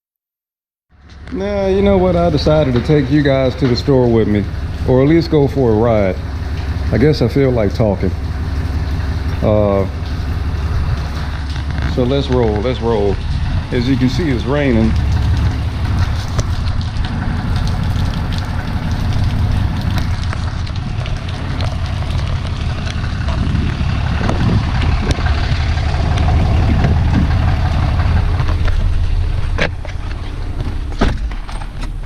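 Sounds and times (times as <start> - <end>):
car engine rumbling: 0.9 - 32.0
rain falling on car: 1.0 - 32.0.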